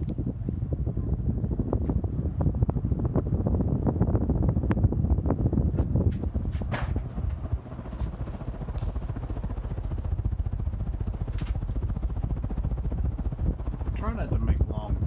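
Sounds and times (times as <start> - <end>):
air buffeting microphone: 0.0 - 15.0
ceiling fan running: 0.0 - 15.0.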